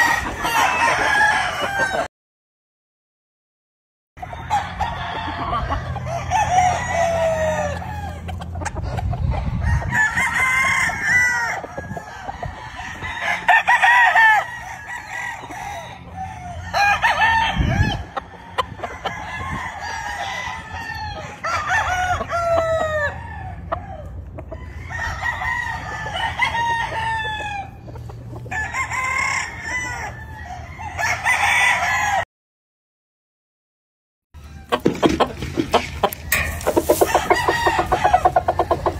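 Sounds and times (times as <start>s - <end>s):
roosters crowing: 0.0s - 2.1s, 4.2s - 32.3s, 34.4s - 38.9s.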